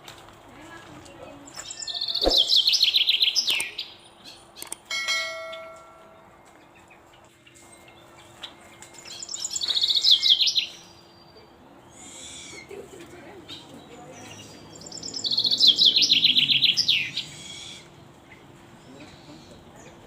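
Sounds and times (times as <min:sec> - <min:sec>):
songbird chirping: 0:01.0 - 0:04.9, 0:05.5 - 0:20.0.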